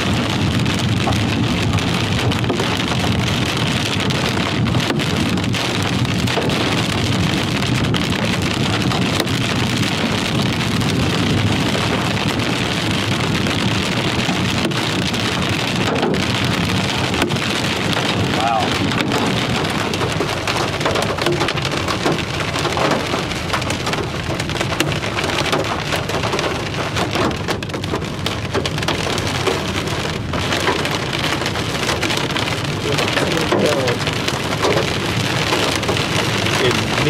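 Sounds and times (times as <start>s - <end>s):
heavy rain on vehicle roof: 0.0s - 37.0s.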